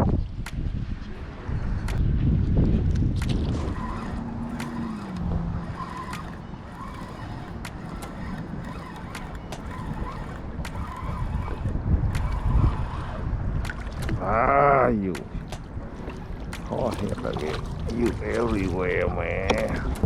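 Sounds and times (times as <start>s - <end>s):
engine hum: 0.0s - 20.0s
wind buffeting microphone: 0.0s - 20.0s.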